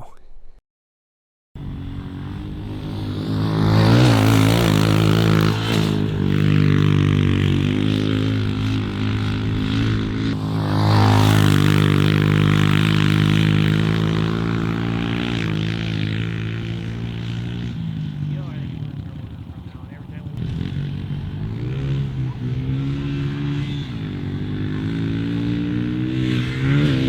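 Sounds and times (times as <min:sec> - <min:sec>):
motorbike engine revving: 0:01.6 - 0:27.0.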